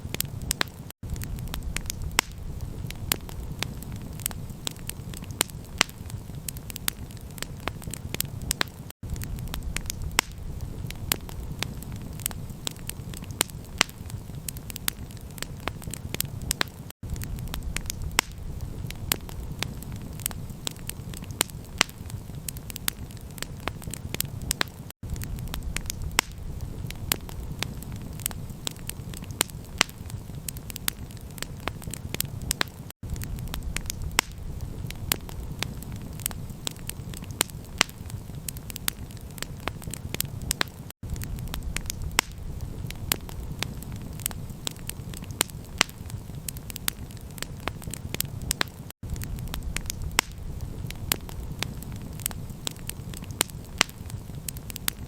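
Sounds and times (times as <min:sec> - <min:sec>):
low rumbling hiss: 0:00.0 - 0:22.6, 0:24.3 - 0:30.5, 0:32.3 - 0:37.2, 0:40.3 - 0:45.2, 0:49.0 - 0:54.5
campfire crackling and popping: 0:00.0 - 0:55.0.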